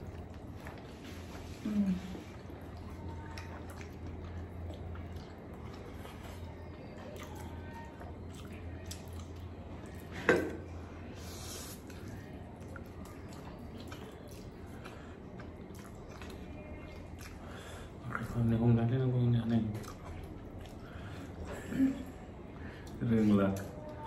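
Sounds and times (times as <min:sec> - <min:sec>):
noodles being chewed: 0:00.0 - 0:10.2, 0:11.2 - 0:24.0.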